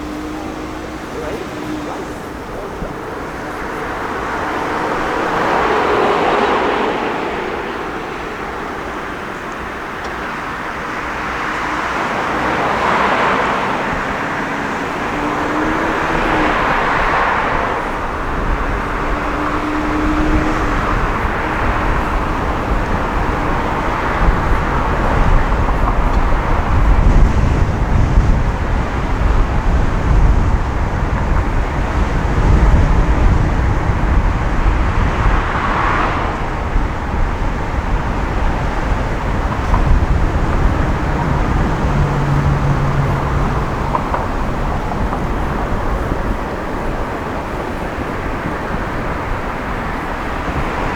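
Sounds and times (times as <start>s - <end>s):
passing vehicles: 0.0s - 50.9s
tyre and road noise: 0.0s - 50.9s.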